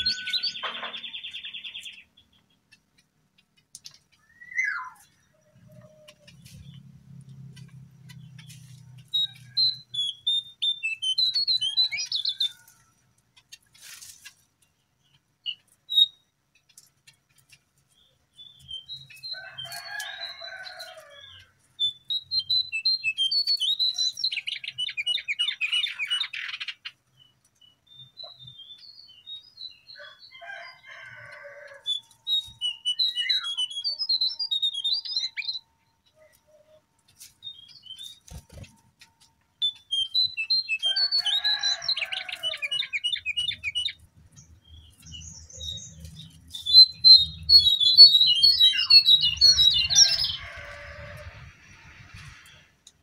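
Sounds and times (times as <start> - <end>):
bird chirping phrases: 0.0 - 3.0, 3.8 - 12.8, 17.9 - 38.7, 39.5 - 51.1.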